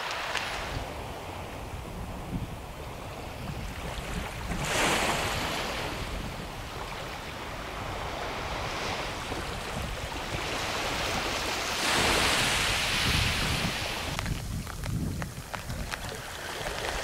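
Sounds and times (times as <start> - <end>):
small waves washing on sand: 0.0 - 17.0
wind rumbling on microphone: 0.0 - 17.0.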